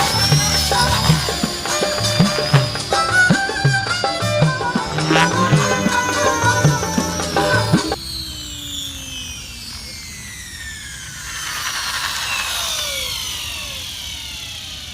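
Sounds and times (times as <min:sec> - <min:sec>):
helicopter motor spooling down: 0:00.0 - 0:14.9.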